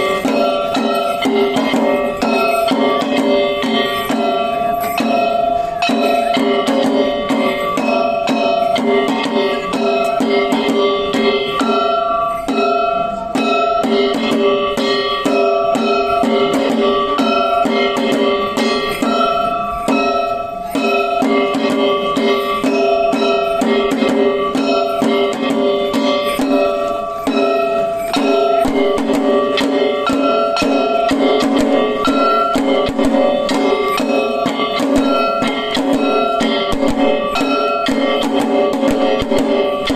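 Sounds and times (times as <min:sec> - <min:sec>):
drums beating fast rhythm: 0:00.0 - 0:39.9
sustained ringing pitched tones: 0:00.0 - 0:39.9.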